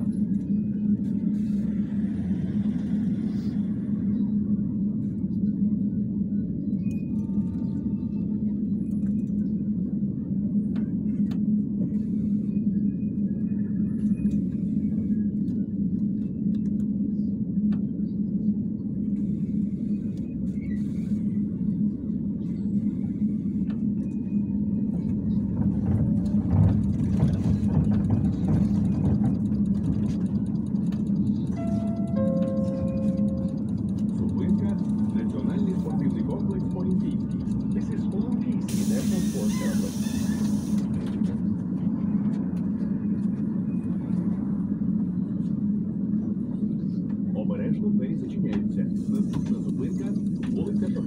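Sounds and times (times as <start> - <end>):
trolleybus cabin hum and rumble: 0.0 - 51.0.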